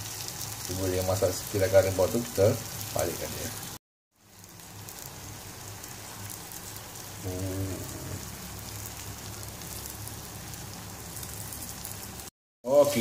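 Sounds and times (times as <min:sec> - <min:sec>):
batter sizzling in frying pan: 0:00.0 - 0:13.0.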